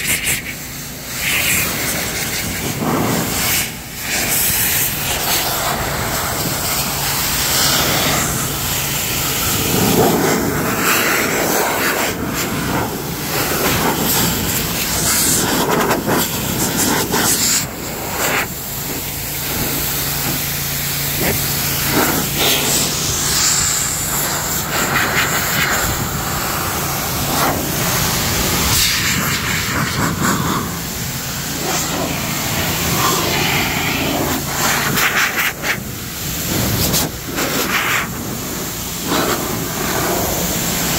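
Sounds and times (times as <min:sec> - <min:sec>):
car-drying blower running: 0:00.0 - 0:40.9.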